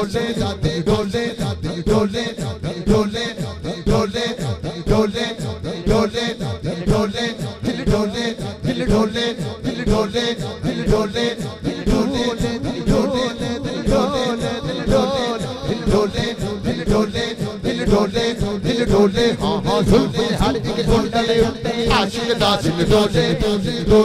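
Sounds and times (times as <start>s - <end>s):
fast steady beat: 0.0s - 24.0s
man singing into microphone: 0.0s - 24.0s.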